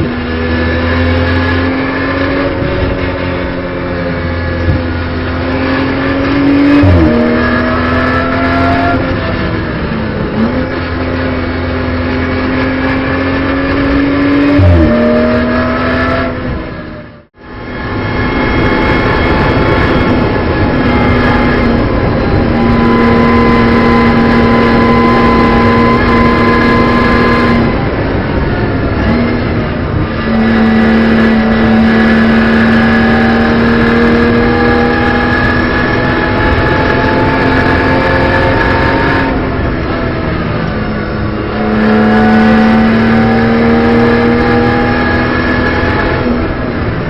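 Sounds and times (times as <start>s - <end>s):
race car engine at full throttle: 0.0s - 47.0s.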